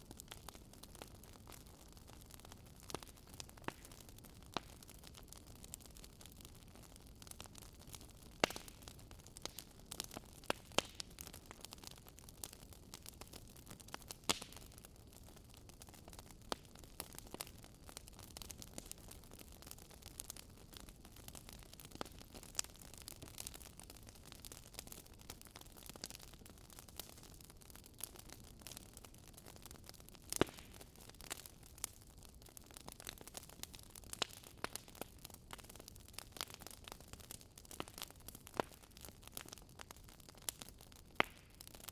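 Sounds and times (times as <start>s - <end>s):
campfire crackling: 0.0s - 41.9s.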